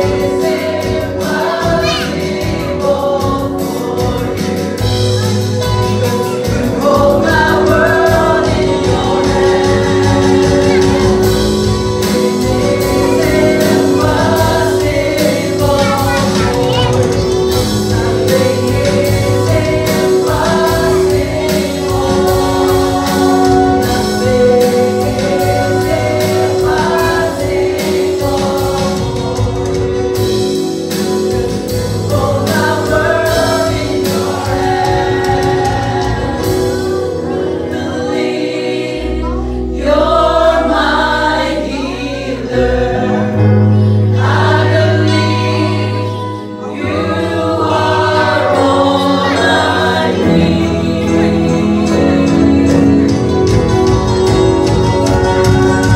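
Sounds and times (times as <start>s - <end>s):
group voices singing: 0.0s - 55.9s
worship band playing: 0.0s - 55.9s.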